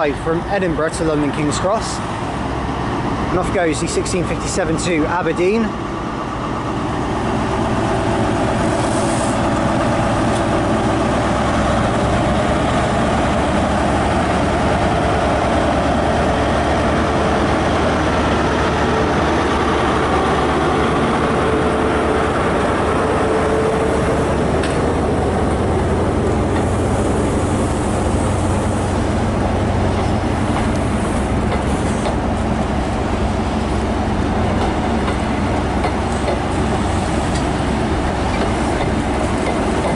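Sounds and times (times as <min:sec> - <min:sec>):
diesel train engine drone: 0:00.0 - 0:39.9
rail and wheel noise: 0:00.0 - 0:39.9.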